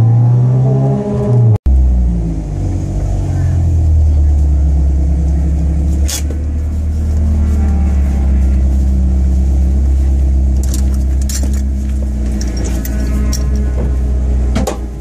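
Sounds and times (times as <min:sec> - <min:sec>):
car engine idling: 0:01.7 - 0:15.0.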